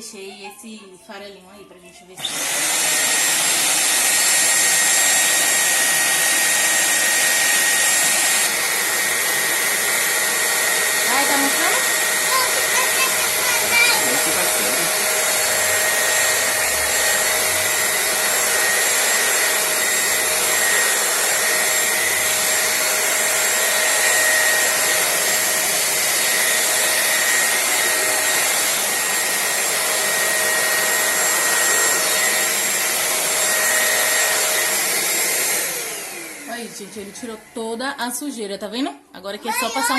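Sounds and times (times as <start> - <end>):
vacuum cleaner running: 2.2 - 38.5, 39.2 - 39.9.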